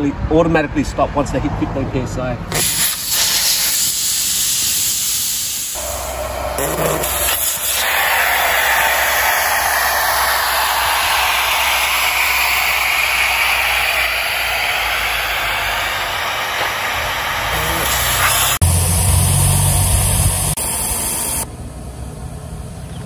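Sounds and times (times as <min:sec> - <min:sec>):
air hissing out of tyre: 0:02.5 - 0:21.4.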